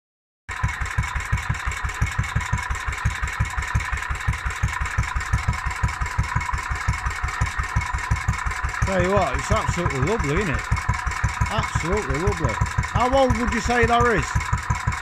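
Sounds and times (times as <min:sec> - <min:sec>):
stationary engine idling: 0:00.5 - 0:15.0.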